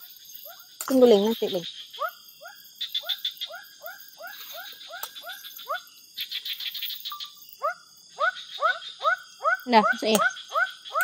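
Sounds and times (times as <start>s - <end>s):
frogs calling: 0.0s - 11.0s
insects trilling: 0.0s - 11.0s.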